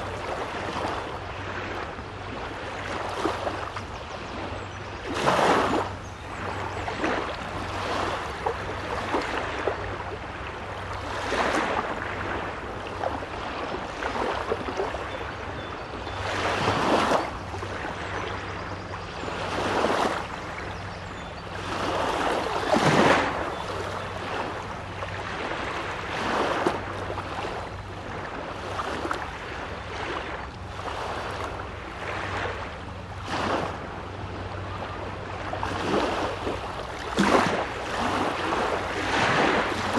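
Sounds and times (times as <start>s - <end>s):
low steady hum: 0.0s - 39.9s
small waves breaking on beach: 0.0s - 39.9s.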